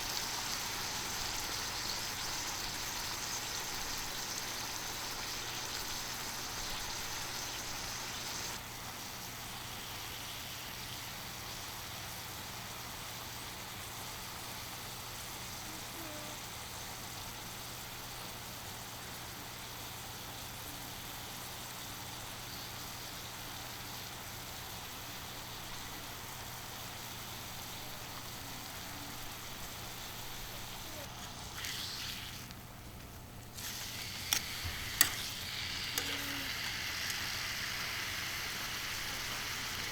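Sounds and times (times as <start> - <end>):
steak sizzling on a griddle: 0.0 - 32.8, 33.5 - 39.9.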